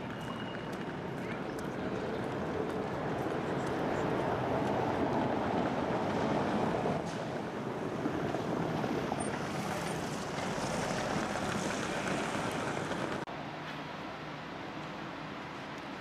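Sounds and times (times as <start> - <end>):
tram rolling: 0.0 - 16.0.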